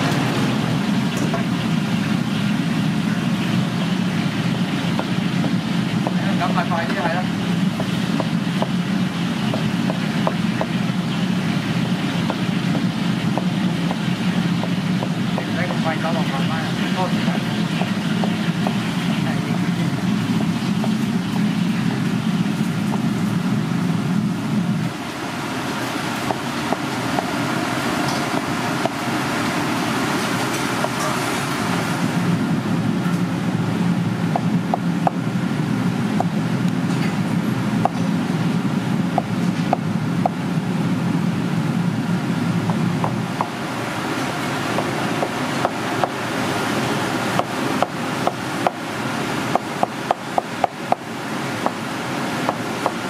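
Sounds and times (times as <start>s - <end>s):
steady rushing background noise: 0.0s - 53.0s.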